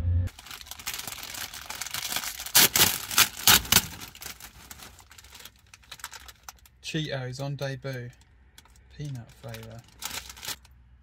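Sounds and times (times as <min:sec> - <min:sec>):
plastic snack packet crinkling: 0:00.3 - 0:06.8, 0:07.8 - 0:10.8.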